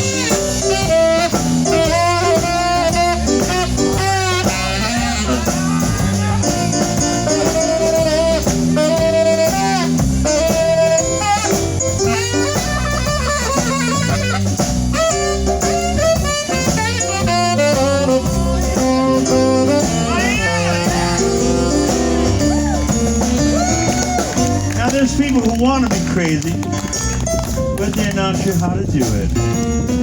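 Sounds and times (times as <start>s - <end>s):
lead instrument soloing: 0.0s - 27.8s
bass line: 0.0s - 30.0s
drums: 0.0s - 30.0s
live blues band playing: 0.0s - 30.0s.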